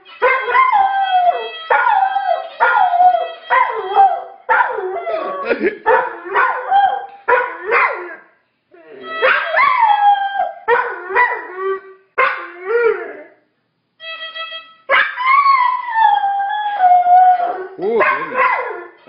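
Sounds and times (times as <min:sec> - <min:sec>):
dog howling: 0:00.2 - 0:08.2, 0:08.8 - 0:13.4, 0:14.9 - 0:19.0.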